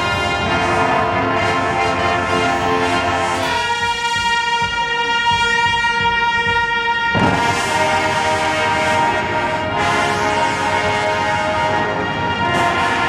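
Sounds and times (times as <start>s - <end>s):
marching band brass playing: 0.0s - 13.0s.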